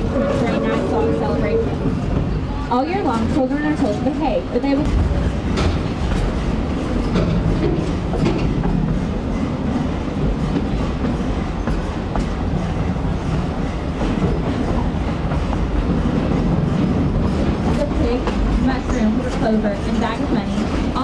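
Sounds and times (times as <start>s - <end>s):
train rumbling on track: 0.0s - 21.0s
wheels clicking over rails: 3.0s - 21.0s.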